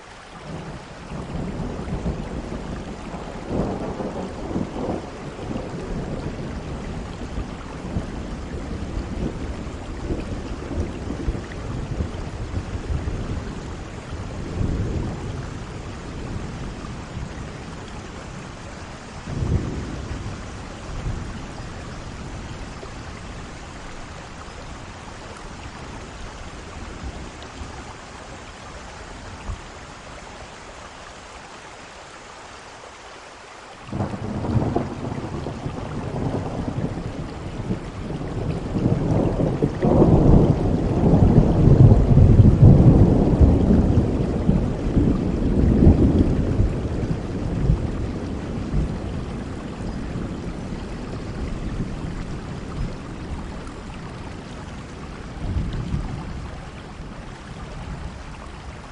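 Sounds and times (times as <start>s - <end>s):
steady rain: 0.0s - 58.9s
rolling thunder rumble: 0.5s - 28.4s, 33.9s - 58.9s.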